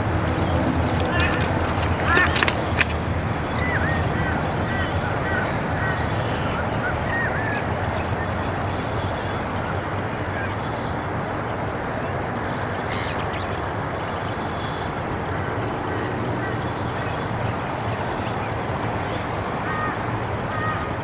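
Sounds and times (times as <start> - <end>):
fishing reel drag buzzing: 0.0 - 21.0.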